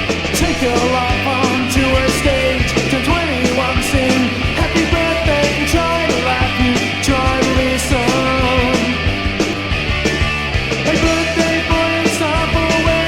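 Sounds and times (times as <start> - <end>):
bass guitar: 0.0 - 13.0
drums playing driving beat: 0.0 - 13.0
electric guitars: 0.0 - 13.0.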